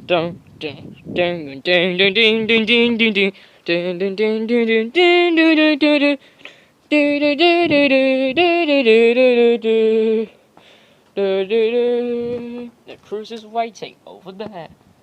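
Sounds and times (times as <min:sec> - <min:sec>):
person singing wordless tune: 0:00.0 - 0:14.2.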